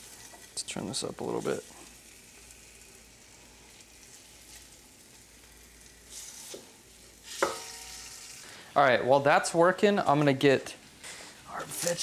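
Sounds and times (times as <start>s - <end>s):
meat sizzling in a hot pot: 0.0s - 12.0s.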